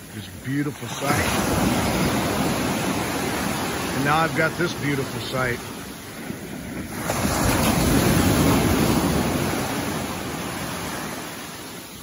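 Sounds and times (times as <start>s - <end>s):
small waves breaking on beach: 0.0s - 12.0s.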